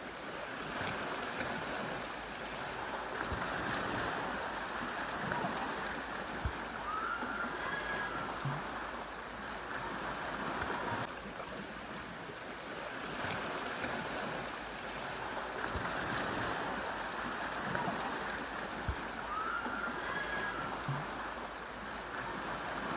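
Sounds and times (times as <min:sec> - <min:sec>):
waves washing onto beach: 0:00.0 - 0:22.9.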